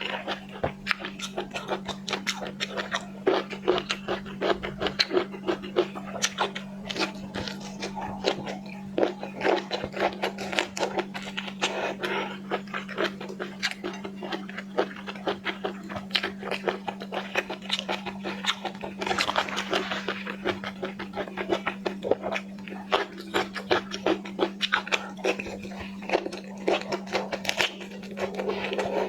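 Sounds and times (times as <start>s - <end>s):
close eating and chewing: 0.0s - 29.0s
steady low hum: 0.0s - 29.0s.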